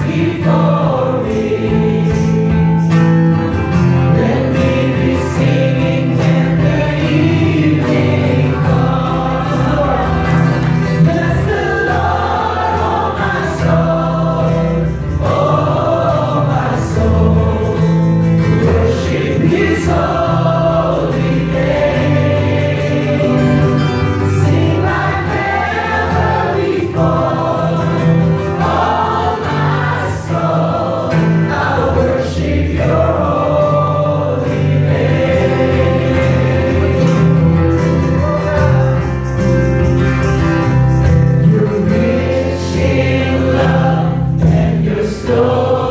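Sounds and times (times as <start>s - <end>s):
amplified instrumental accompaniment: 0.0s - 45.9s
choir singing gospel song: 0.0s - 45.9s.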